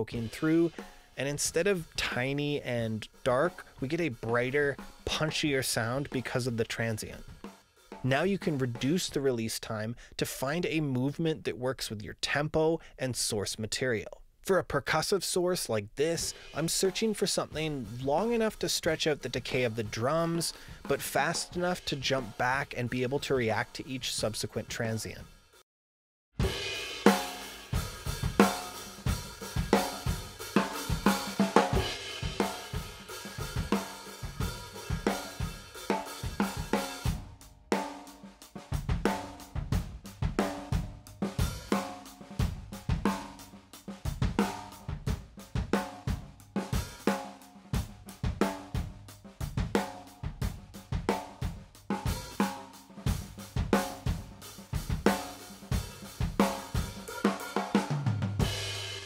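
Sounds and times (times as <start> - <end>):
drum kit playing a groove: 0.0 - 11.2, 15.6 - 25.6, 26.4 - 59.0.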